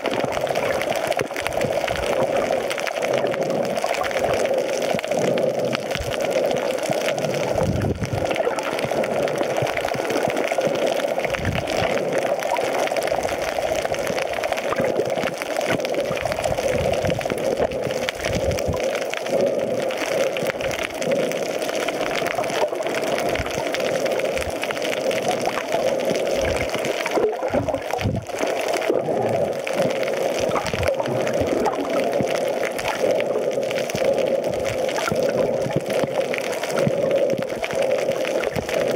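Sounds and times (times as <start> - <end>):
fine underwater crackling: 0.0 - 38.9
underwater water noise: 0.0 - 38.9.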